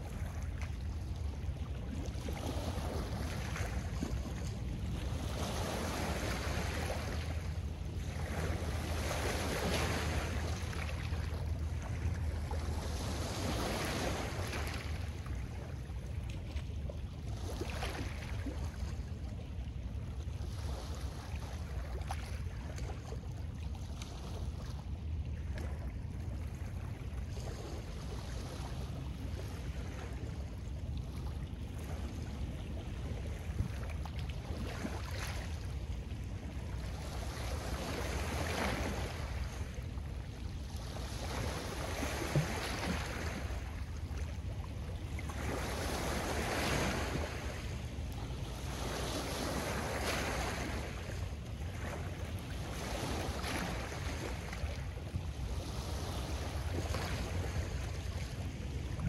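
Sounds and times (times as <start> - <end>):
waves lapping on stony shore: 0.0 - 59.0
wind rumble on microphone: 0.0 - 59.0.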